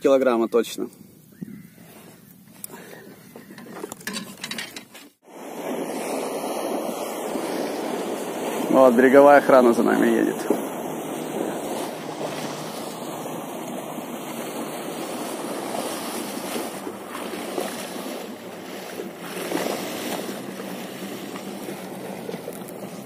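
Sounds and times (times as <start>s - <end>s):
water noise: 0.0s - 23.0s
wind: 0.0s - 23.0s.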